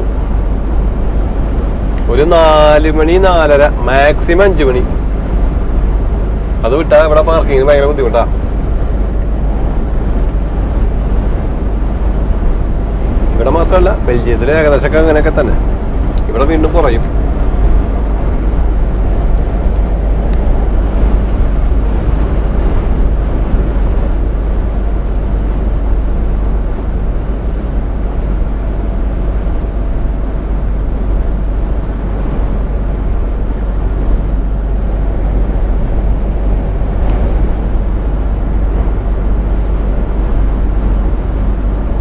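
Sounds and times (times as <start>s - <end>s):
lorry engine drone and road noise: 0.0s - 42.0s.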